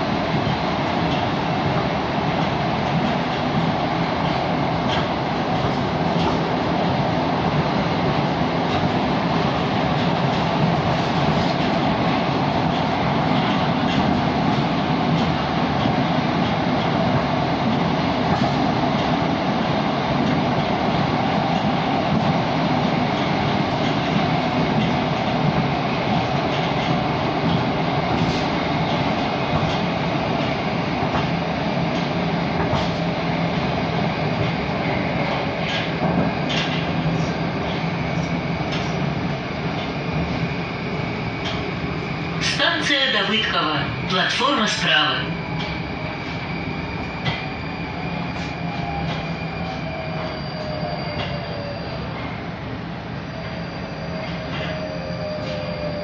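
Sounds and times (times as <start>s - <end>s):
metro train wheels rumbling on rails: 0.0s - 56.0s.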